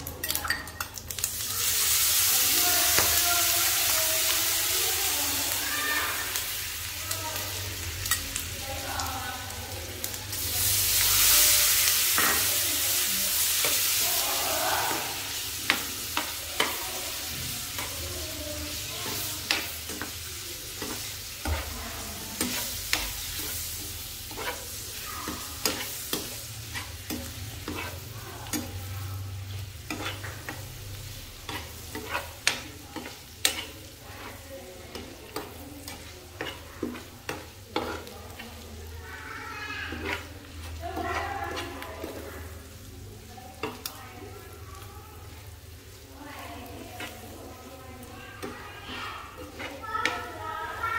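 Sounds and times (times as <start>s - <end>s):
fish sizzling in a frying pan: 0.0s - 50.9s.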